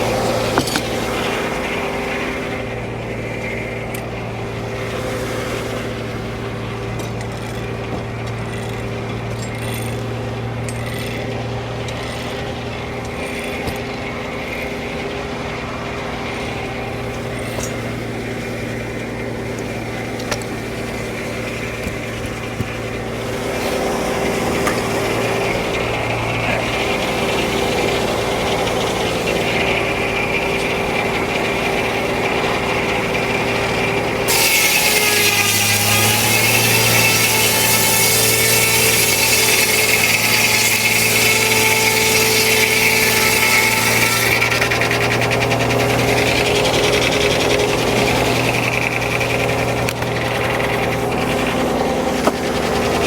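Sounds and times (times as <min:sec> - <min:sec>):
sawmill mechanical hum: 0:00.0 - 0:53.0.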